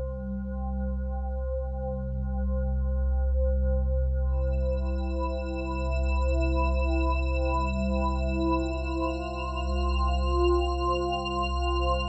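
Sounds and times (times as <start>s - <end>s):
ambient music with drone: 0.0s - 12.0s.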